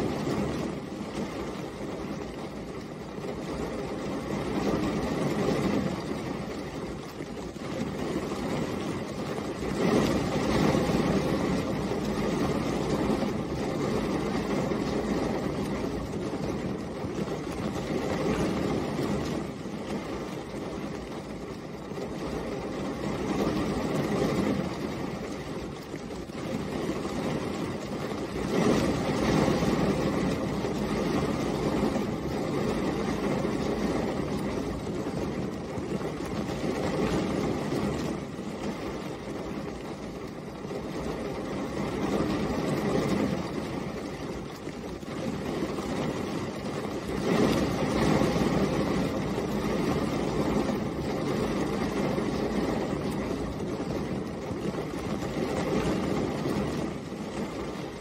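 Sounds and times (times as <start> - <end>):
rain falling on a car: 0.0 - 58.0.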